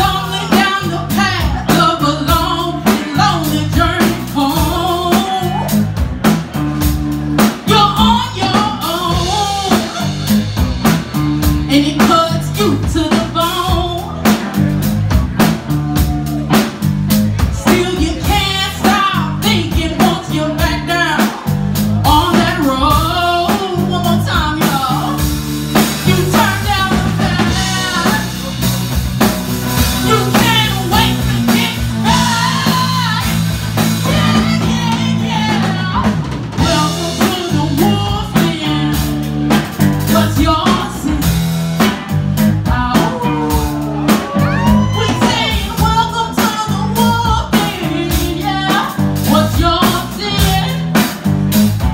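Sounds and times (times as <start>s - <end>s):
woman singing: 0.0s - 5.9s, 7.6s - 10.4s, 11.7s - 14.4s, 17.4s - 28.6s, 29.9s - 39.2s, 40.0s - 41.9s, 42.6s - 51.1s
drum kit: 0.0s - 51.9s
electric bass: 0.0s - 51.9s
electric guitar: 0.0s - 51.9s.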